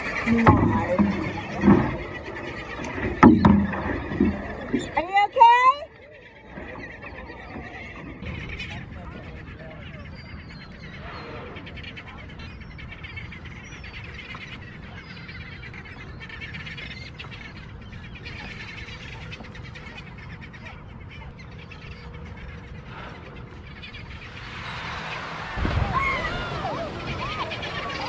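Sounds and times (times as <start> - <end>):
seabirds chirping: 0.0 - 28.0
wind and water noise: 0.0 - 28.0.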